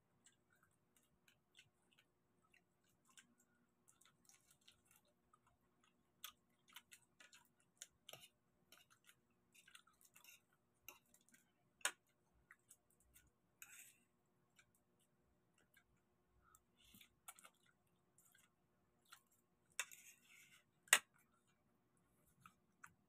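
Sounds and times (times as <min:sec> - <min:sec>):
chewing: 0:00.1 - 0:23.0.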